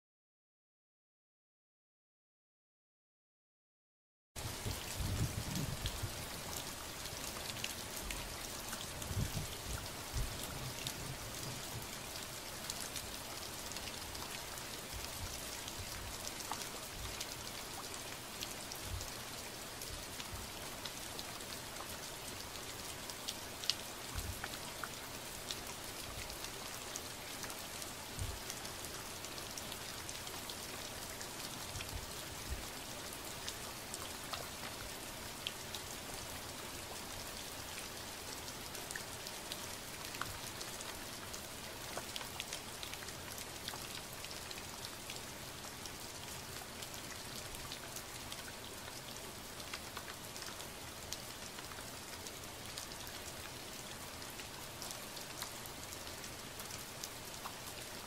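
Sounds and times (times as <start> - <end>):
steady rain falling: 4.4 - 58.0.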